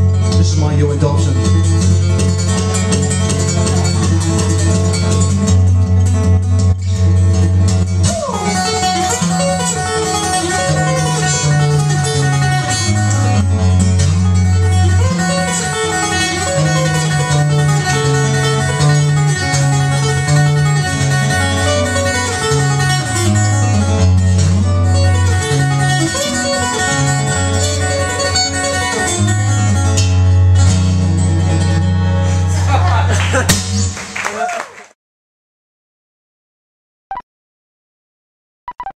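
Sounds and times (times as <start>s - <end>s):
fingerstyle acoustic guitar: 0.0s - 34.0s.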